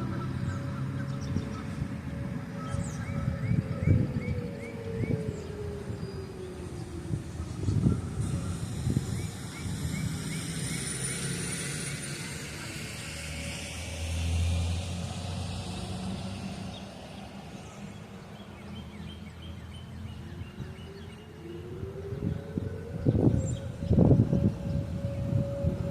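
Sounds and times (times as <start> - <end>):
electronic siren rising: 0.0 - 17.9, 19.9 - 25.9
low traffic rumble: 0.0 - 25.9.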